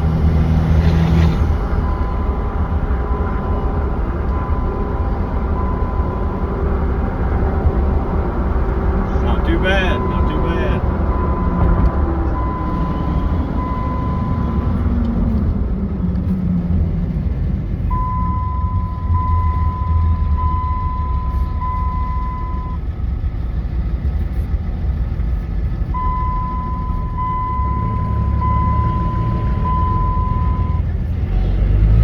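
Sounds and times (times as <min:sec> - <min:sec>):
engine and road noise in cab: 0:00.0 - 0:32.0.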